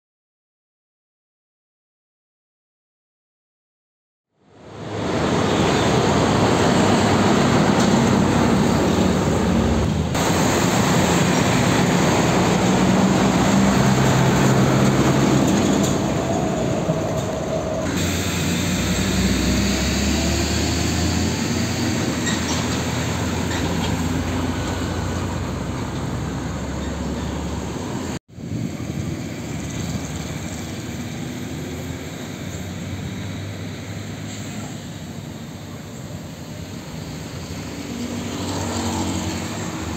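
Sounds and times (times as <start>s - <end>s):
road traffic noise: 4.4s - 39.9s
diesel trucks driving past: 4.5s - 39.9s.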